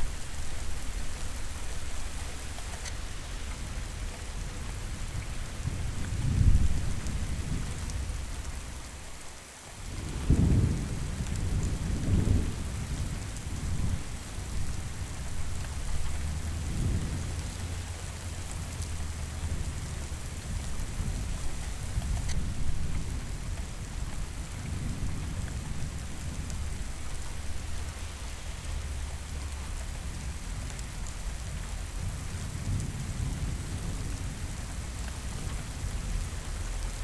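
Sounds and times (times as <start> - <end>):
rain hiss: 0.0 - 37.0
rolling thunder: 5.0 - 8.4, 9.8 - 36.4.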